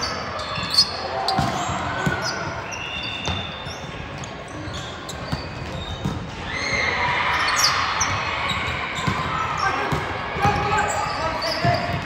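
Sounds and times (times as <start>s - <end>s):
echoing crowd voices: 0.0s - 12.0s
shoes squeaking on court: 0.0s - 12.0s.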